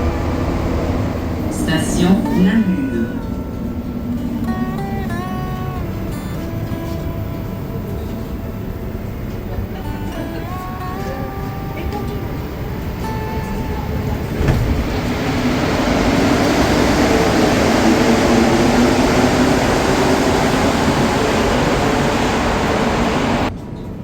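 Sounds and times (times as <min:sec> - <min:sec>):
metro train rumble and hum: 0:00.0 - 0:24.0.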